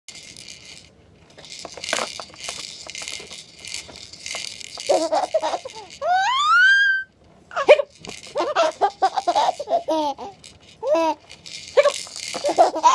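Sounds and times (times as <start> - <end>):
baby bouncer rattling: 1.4 - 6.5, 7.6 - 12.9.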